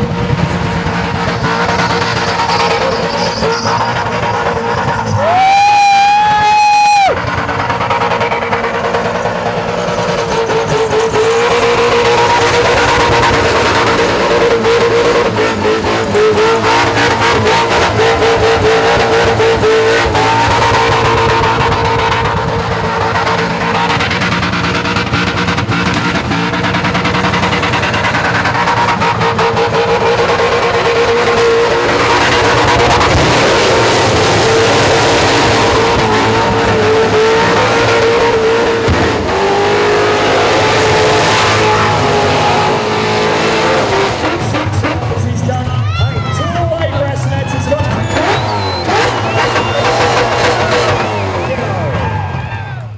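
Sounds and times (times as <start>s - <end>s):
engine revving high: 0.0s - 45.7s, 46.7s - 52.5s.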